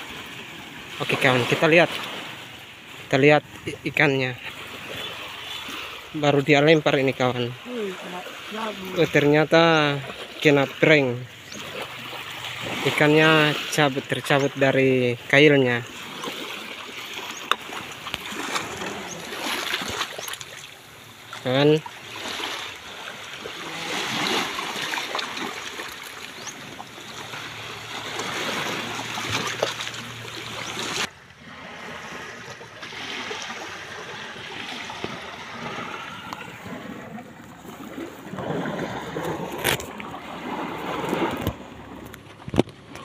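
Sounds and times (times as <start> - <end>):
small waves lapping on shore: 0.0 - 43.0.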